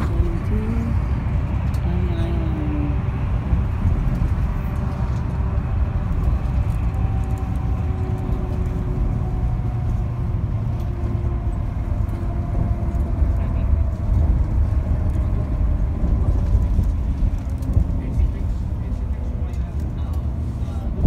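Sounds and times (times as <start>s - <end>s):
vehicle road rumble: 0.0s - 21.0s.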